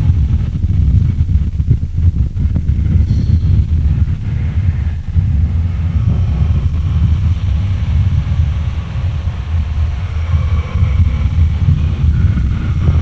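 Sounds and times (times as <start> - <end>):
continuous low rumble: 0.0 - 13.0
lo-fi black metal recording: 0.0 - 13.0.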